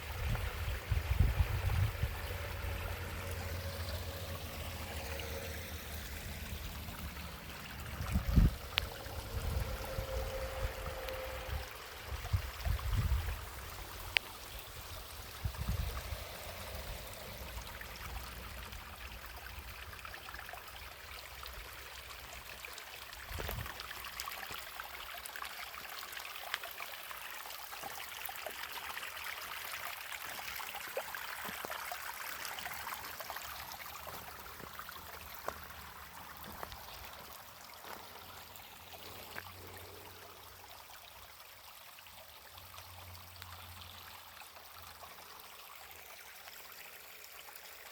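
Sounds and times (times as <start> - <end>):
stream flowing: 0.0 - 47.9.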